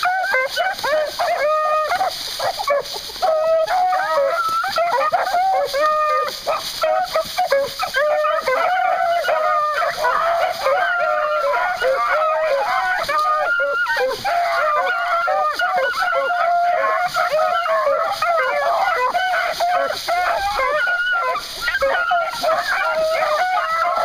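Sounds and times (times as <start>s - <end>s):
dogs baying: 0.0s - 24.0s.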